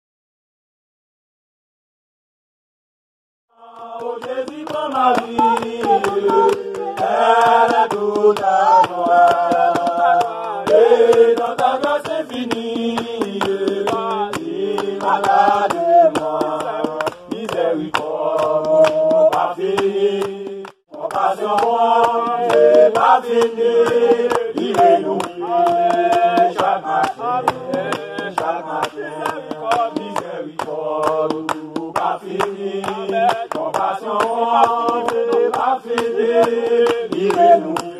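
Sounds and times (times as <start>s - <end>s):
group singing a hymn: 3.5s - 37.9s
rhythmic hand clapping: 3.6s - 37.9s.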